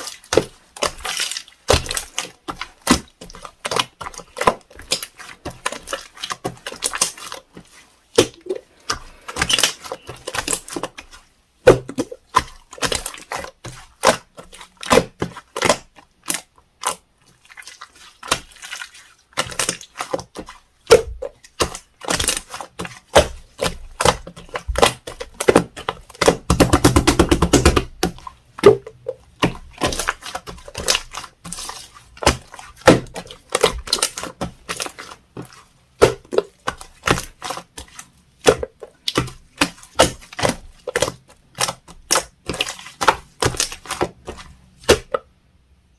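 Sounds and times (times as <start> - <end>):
slime squishing with sticky pops: 0.0 - 45.3.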